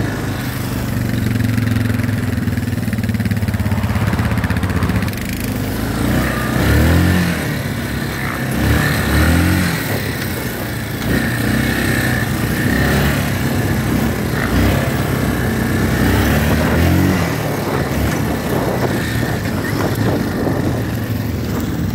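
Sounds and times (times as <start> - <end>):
atv engine revving: 0.0 - 21.9.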